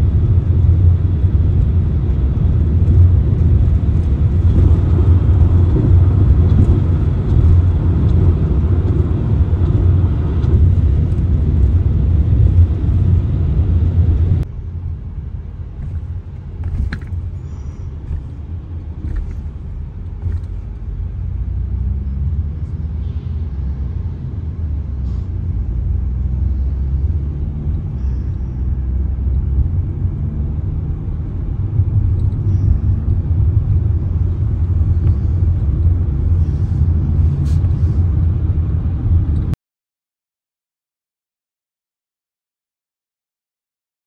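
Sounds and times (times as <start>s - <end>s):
car engine and road noise: 0.0s - 39.6s.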